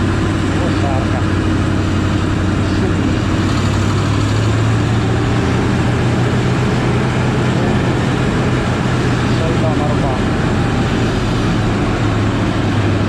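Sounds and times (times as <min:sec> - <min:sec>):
scooter engine humming: 0:00.0 - 0:13.0.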